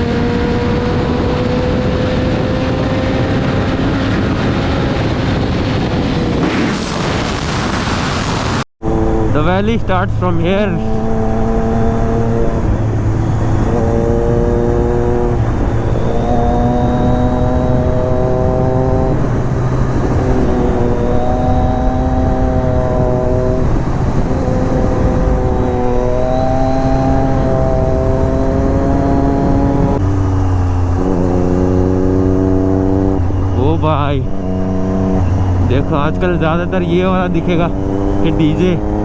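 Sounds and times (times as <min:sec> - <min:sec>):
motorcycle engine revving through gears: 0:00.0 - 0:07.0, 0:08.8 - 0:39.0.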